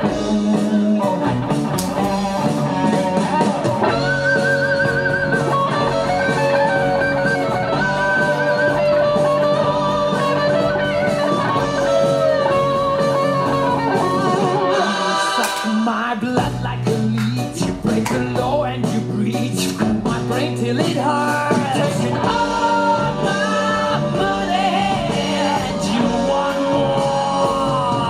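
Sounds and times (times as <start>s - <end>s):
blues-rock guitar music: 0.0s - 28.0s.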